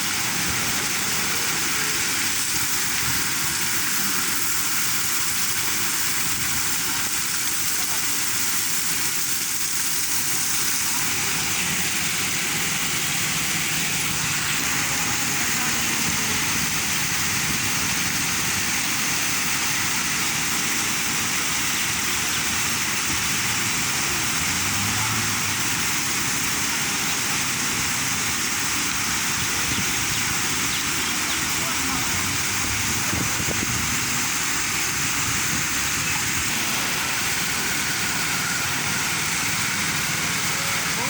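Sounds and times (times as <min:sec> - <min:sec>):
water rushing from leaking pipe: 0:00.0 - 0:41.0.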